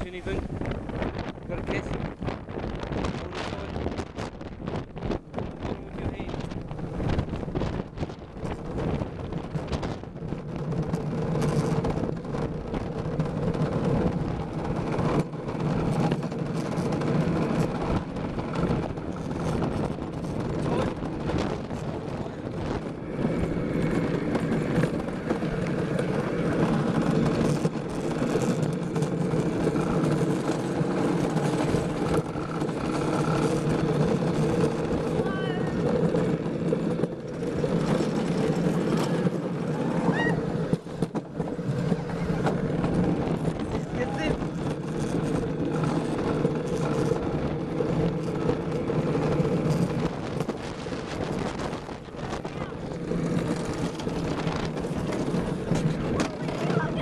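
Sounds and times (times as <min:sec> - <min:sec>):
cart wheels rolling on asphalt: 0:00.0 - 0:57.0.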